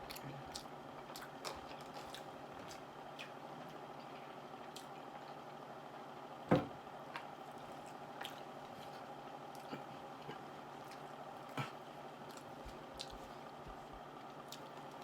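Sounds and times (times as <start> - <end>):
faint steady hum: 0.0 - 15.0
wet chewing and mouth sounds: 0.1 - 5.4, 7.1 - 15.0.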